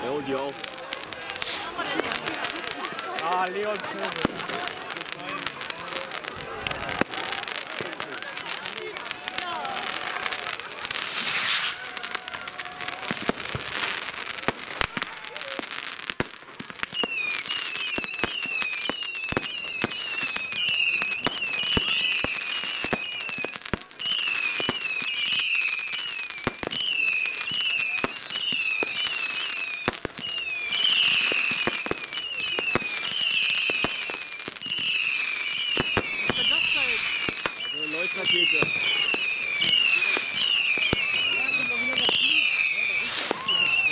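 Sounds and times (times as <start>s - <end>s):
fireworks banging: 0.0s - 43.9s.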